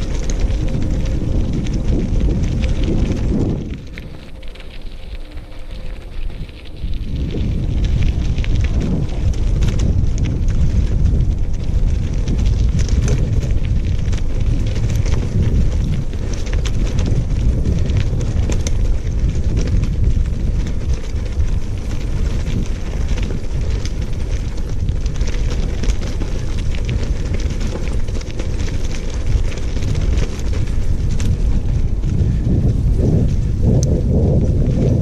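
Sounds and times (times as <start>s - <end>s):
gravel crackling underfoot: 0.0s - 35.0s
wind rumble on microphone: 0.0s - 35.0s.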